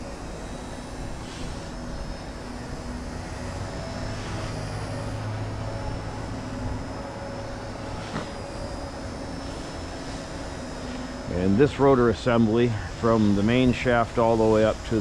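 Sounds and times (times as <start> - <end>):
rc helicopter buzzing whine: 0.0 - 15.0.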